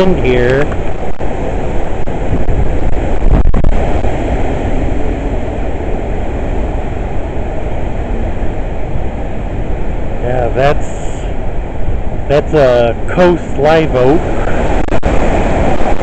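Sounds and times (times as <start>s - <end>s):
strong wind blowing: 0.0s - 16.0s.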